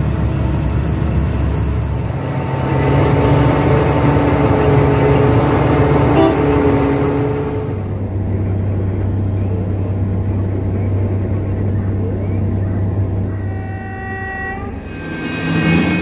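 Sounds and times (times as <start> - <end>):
haul truck diesel engines: 0.0 - 16.0
low engine hum: 0.0 - 16.0.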